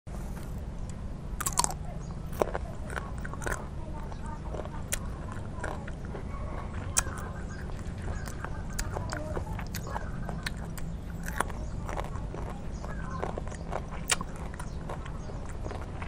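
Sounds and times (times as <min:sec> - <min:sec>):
steady low hum: 0:00.1 - 0:16.0
chewing crunchy fruit: 0:00.2 - 0:16.0.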